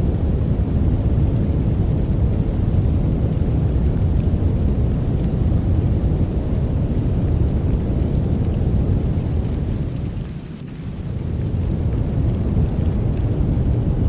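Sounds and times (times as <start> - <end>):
low rumbling hiss: 0.0 - 14.0.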